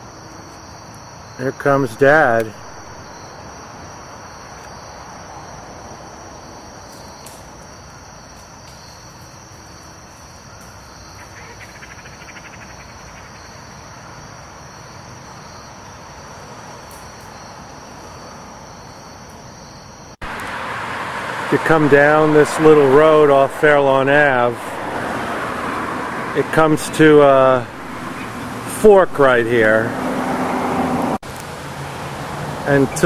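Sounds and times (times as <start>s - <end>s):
crickets chirping: 0.0s - 33.0s
rapid insect trill: 0.0s - 33.0s.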